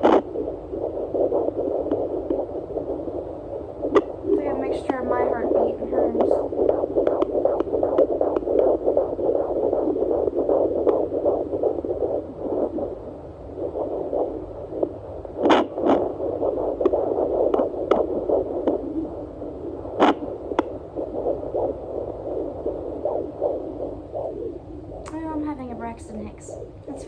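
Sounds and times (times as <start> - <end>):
fetal heartbeat whoosh: 0.0 - 27.0
scratchy clicks: 0.0 - 27.0
slower maternal heartbeat: 0.0 - 27.0.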